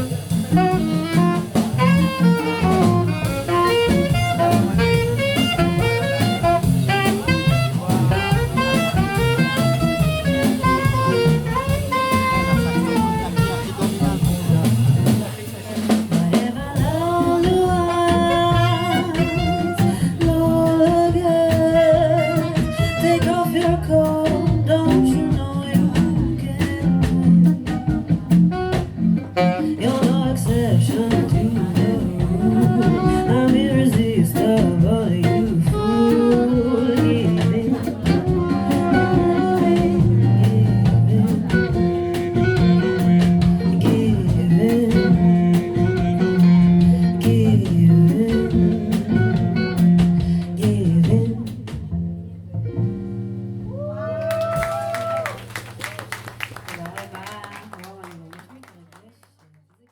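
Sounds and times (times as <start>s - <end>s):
double bass: 0.0s - 56.9s
guitar: 0.0s - 57.6s
drum kit: 0.0s - 58.2s.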